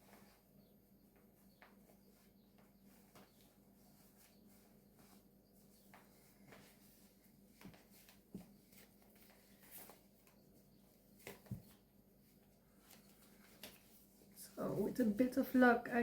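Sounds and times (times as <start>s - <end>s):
soft clicks and rustles: 1.1s - 14.4s.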